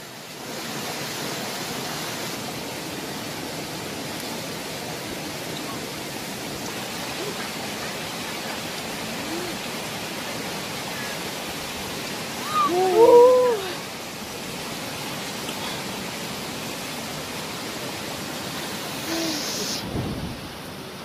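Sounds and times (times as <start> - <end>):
stream and waterfall over rocks: 0.0 - 21.0.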